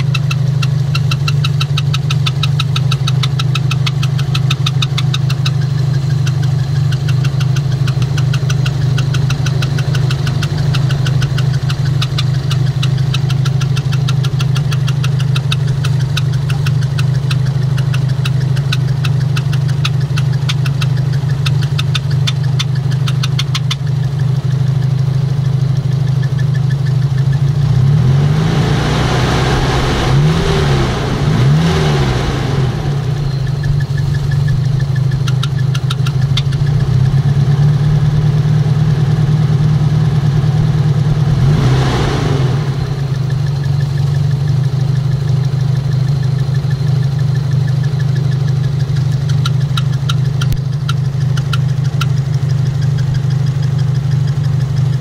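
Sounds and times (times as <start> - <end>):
car engine idling: 0.0 - 55.0
engine revving: 0.0 - 55.0
fast even ticking: 0.0 - 55.0.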